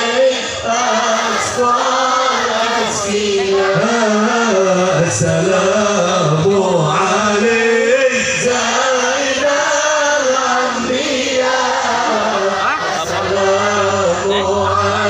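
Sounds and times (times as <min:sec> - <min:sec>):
man chanting over loudspeaker: 0:00.0 - 0:15.0.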